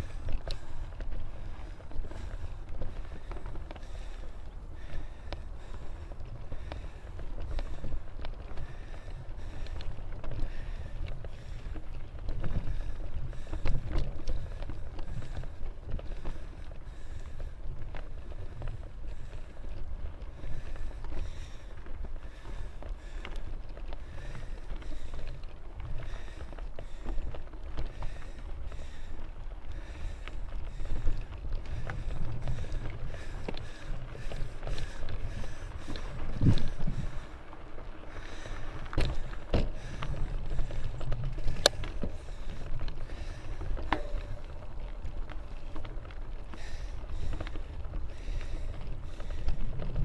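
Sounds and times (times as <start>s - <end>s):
bike clicks and rattles: 0.0s - 50.0s
wind and tyres on dirt trail: 0.0s - 50.0s.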